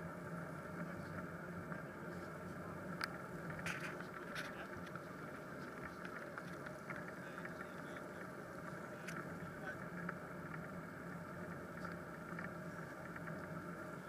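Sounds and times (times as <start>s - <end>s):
bicycle tyres on wet asphalt: 0.0s - 14.0s.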